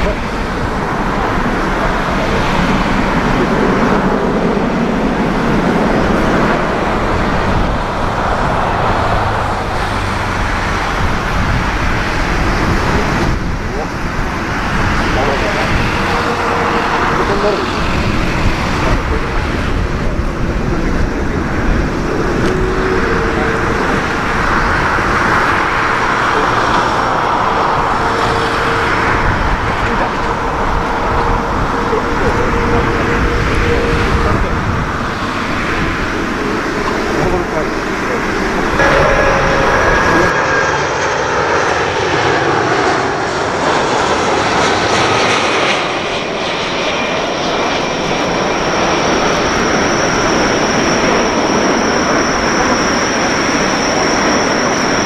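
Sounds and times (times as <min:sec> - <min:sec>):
jet engines at takeoff thrust: 0:00.0 - 0:55.0.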